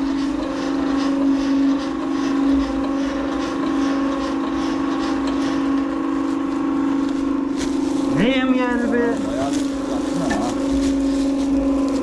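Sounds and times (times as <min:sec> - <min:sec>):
feed machine motor humming: 0:00.0 - 0:12.0.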